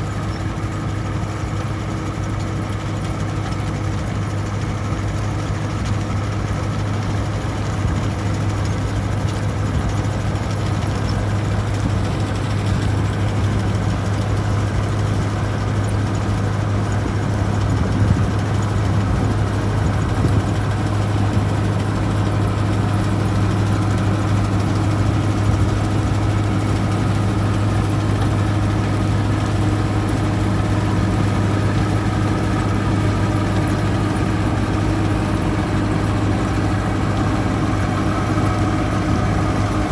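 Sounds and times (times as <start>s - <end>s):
heavy engine low hum: 0.0s - 39.9s.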